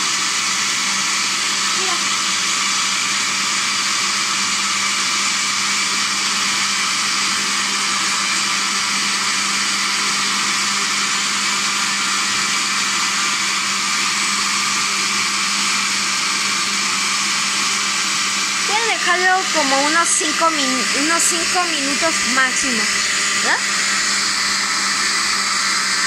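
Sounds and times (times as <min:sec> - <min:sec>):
blender motor whirring: 0:00.0 - 0:26.0.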